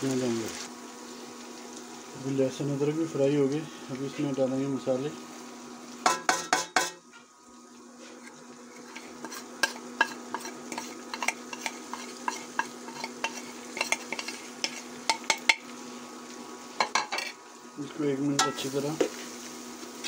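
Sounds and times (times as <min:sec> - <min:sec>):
oil sizzling with onions: 0:00.0 - 0:20.0.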